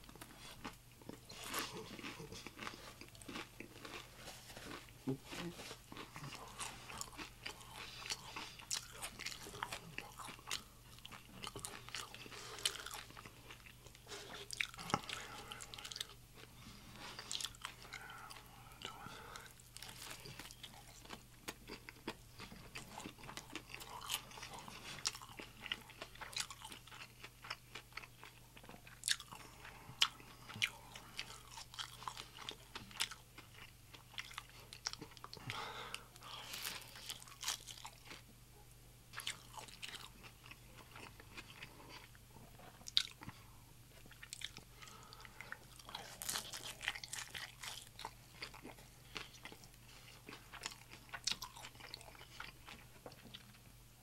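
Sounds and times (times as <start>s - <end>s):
chewing crispy tacos: 0.0s - 38.3s, 39.1s - 53.8s.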